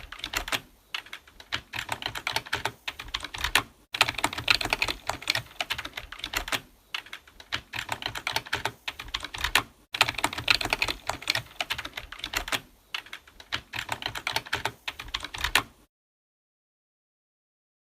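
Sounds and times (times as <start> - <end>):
computer keyboard typing: 0.0 - 15.9.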